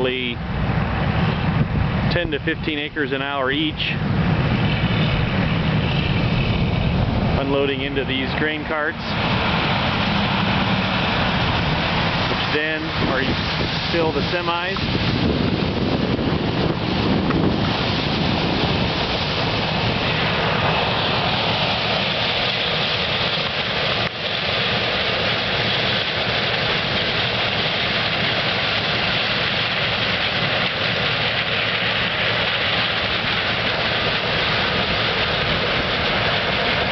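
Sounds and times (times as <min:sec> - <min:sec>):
combine harvester drone: 0:00.0 - 0:36.9.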